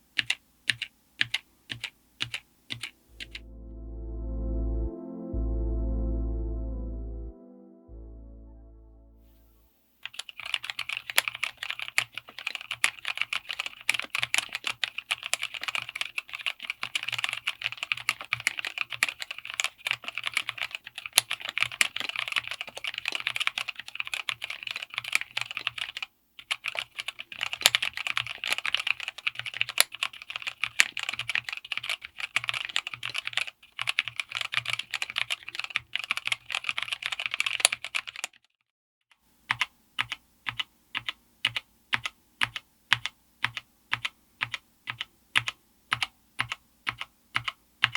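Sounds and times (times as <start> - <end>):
fast typing on mechanical keyboard: 0.0 - 3.4, 10.0 - 38.4, 39.5 - 47.9.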